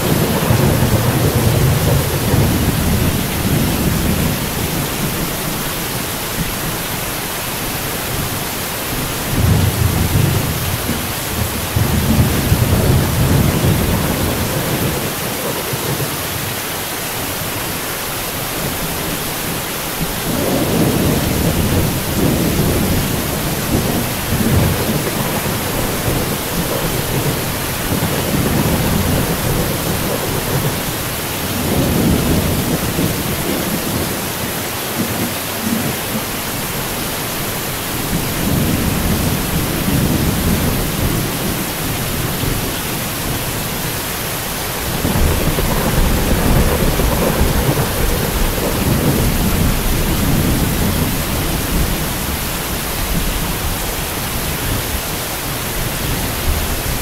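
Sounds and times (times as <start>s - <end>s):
thunder rumbling: 0.0s - 7.0s, 8.2s - 16.6s, 18.4s - 55.1s
heavy rain falling: 0.0s - 57.0s.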